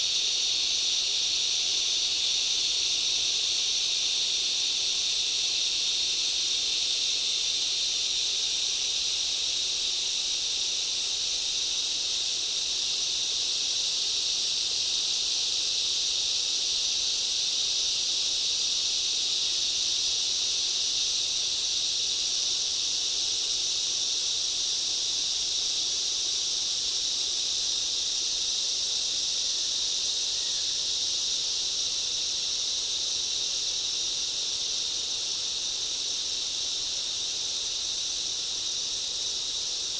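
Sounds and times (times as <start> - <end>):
rainforest insects chorus: 0.0 - 39.9.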